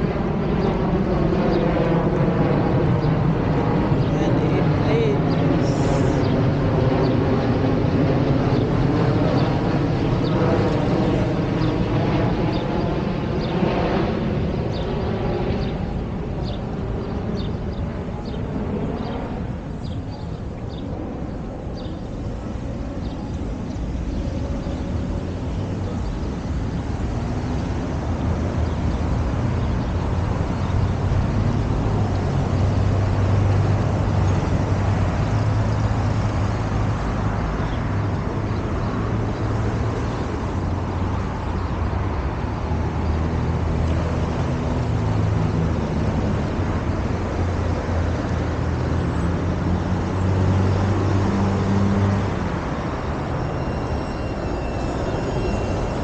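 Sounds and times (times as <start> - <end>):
road traffic: 0.0 - 56.0.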